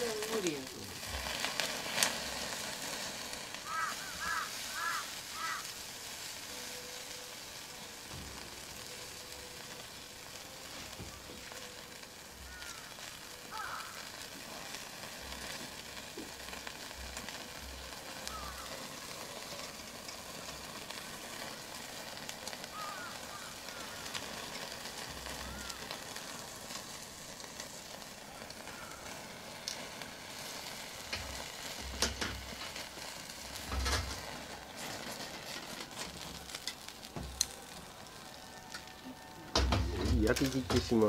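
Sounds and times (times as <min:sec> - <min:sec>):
meat sizzling in a hot pan: 0:00.0 - 0:41.0.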